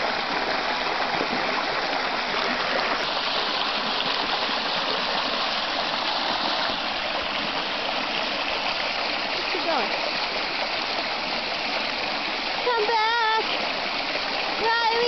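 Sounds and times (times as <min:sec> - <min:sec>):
water pouring over waterfall: 0:00.0 - 0:15.0.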